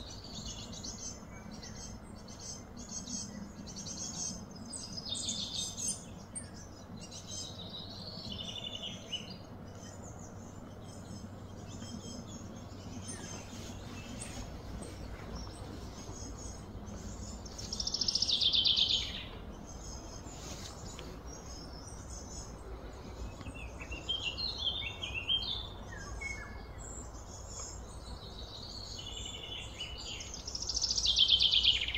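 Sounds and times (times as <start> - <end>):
birds chirping: 0.0 - 31.9
steady background hum: 0.0 - 31.9.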